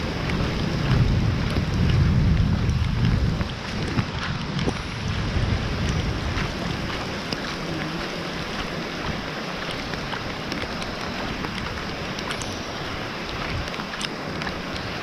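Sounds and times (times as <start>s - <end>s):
rain drops hitting: 0.0s - 15.0s
wind rumbling on microphone: 0.0s - 15.0s.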